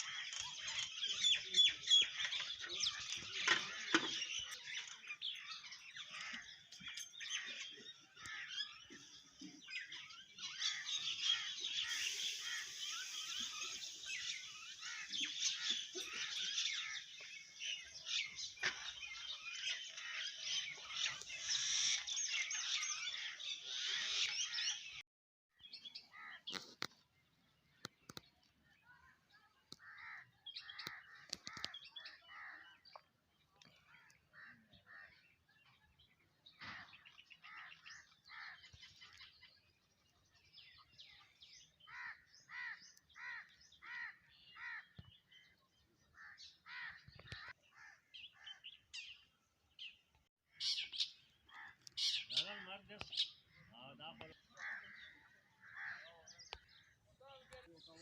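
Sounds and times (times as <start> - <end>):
wild birds calling and chirping: 0.0 - 25.0, 25.6 - 58.0.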